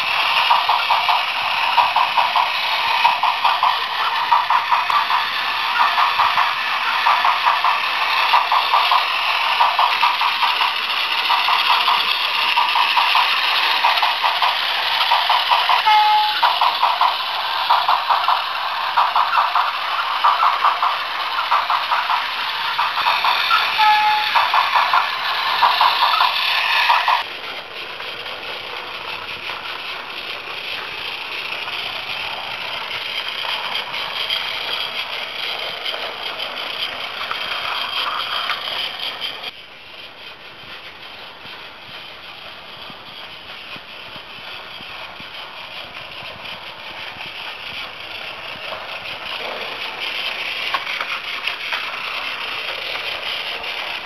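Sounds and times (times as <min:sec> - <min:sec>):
toy train motor whirring: 0:00.0 - 0:54.0
wheels rattling on plastic track: 0:00.0 - 0:54.0.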